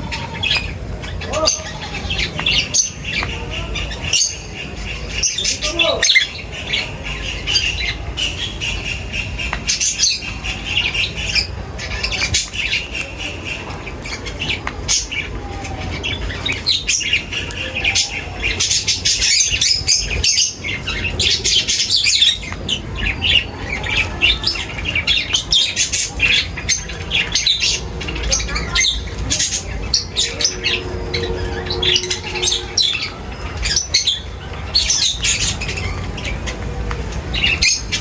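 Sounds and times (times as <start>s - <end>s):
flock of small birds chirping: 0.0s - 38.0s.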